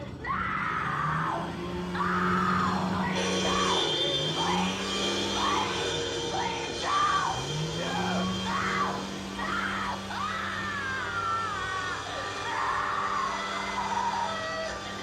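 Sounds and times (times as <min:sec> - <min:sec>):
eerie music: 0:00.0 - 0:15.0
low drone: 0:00.0 - 0:15.0
woman screaming: 0:00.0 - 0:15.0.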